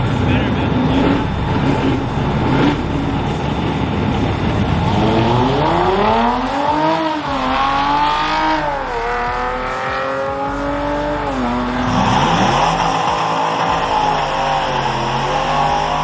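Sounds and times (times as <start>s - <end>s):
another engine climbing in pitch: 0.0s - 16.0s
car engine at full throttle: 0.0s - 16.0s.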